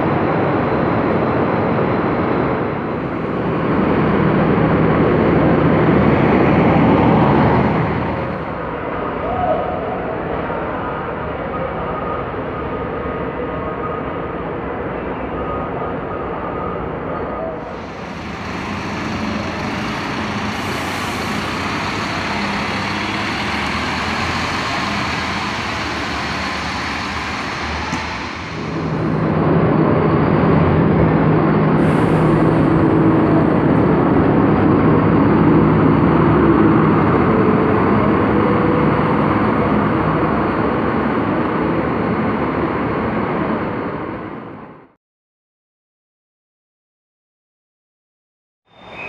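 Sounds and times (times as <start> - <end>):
bus engine droning: 0.0 - 44.9.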